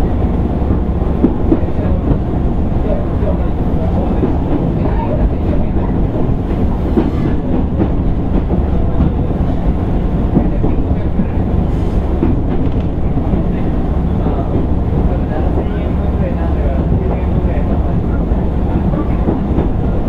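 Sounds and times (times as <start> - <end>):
clickety-clack of rail joints: 0.0 - 20.0
train wheels rumbling on rail: 0.0 - 20.0.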